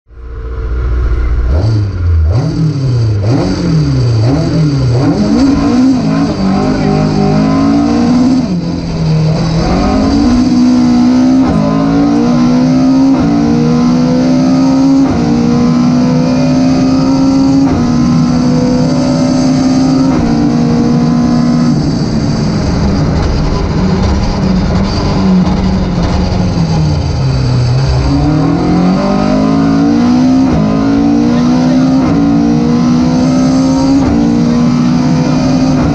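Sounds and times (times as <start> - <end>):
rally car engine revving: 0.1 - 35.9.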